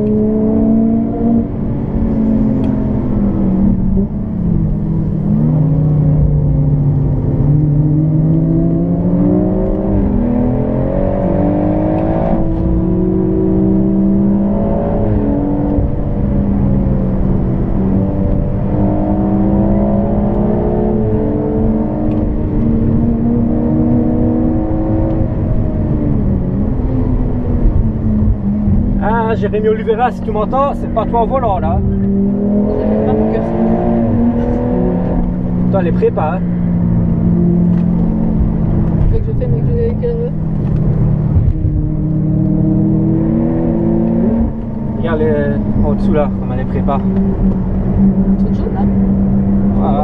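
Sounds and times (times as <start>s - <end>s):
car engine accelerating: 0.0s - 50.0s
road and tyre noise: 0.0s - 50.0s.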